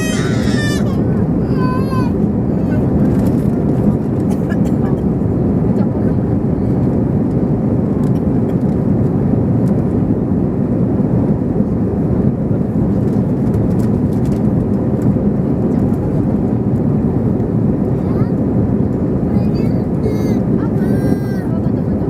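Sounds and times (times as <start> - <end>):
jet engines and rushing air: 0.0 - 22.0.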